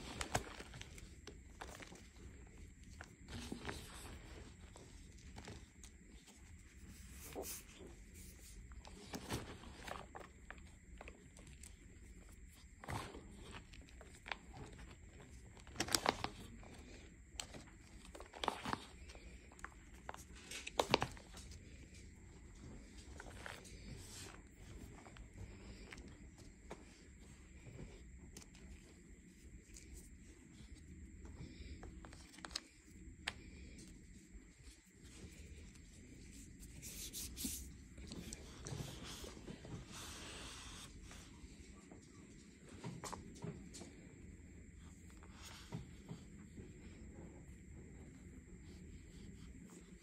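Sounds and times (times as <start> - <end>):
hands crunching dry chalky powder: 0.0 - 41.3.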